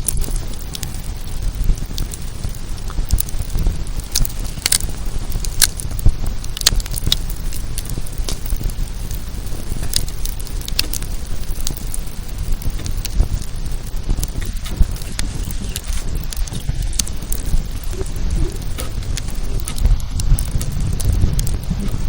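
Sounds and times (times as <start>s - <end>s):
low steady rumble: 0.0s - 22.0s
wood campfire crackling: 0.0s - 22.0s.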